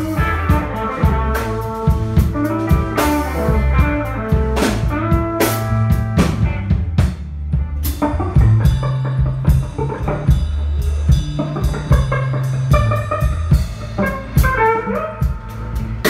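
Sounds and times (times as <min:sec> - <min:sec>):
drum kit beat: 0:00.0 - 0:16.0
electric bass: 0:00.0 - 0:16.0
electric guitars: 0:00.0 - 0:16.0.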